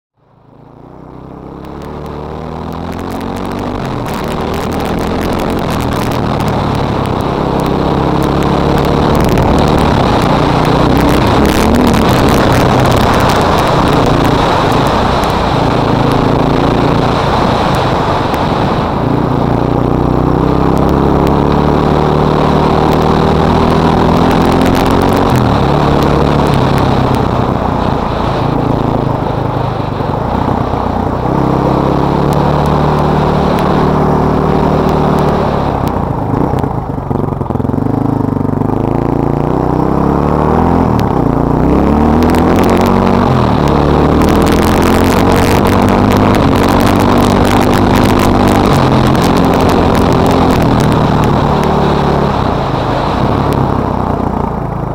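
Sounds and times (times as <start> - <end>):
quad engine running: 0.2 - 54.9.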